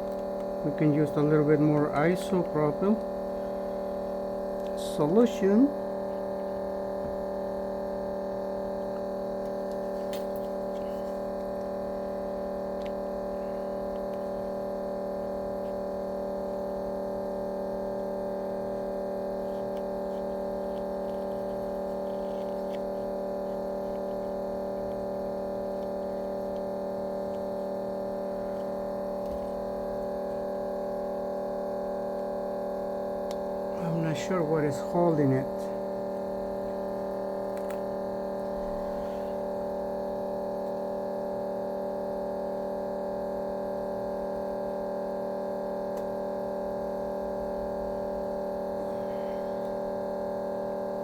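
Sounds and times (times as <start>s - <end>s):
steady multi-tone hum: 0.0s - 51.0s.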